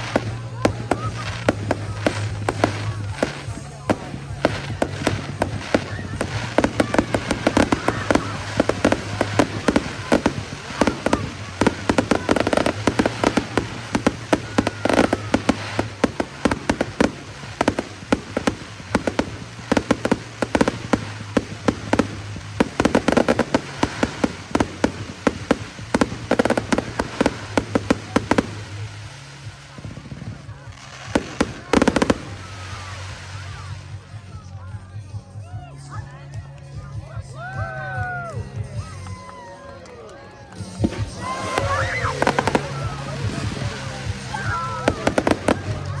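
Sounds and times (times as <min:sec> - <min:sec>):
fireworks cracking and popping: 0:00.0 - 0:35.2, 0:38.6 - 0:46.0.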